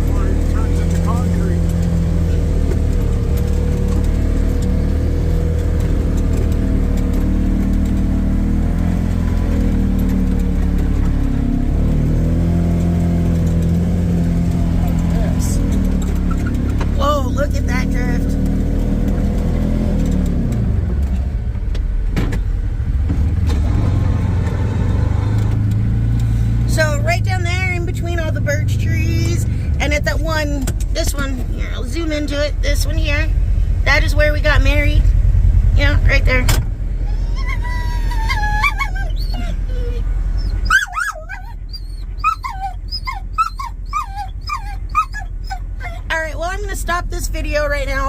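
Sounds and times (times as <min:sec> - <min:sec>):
vehicle engine droning: 0:00.0 - 0:48.0.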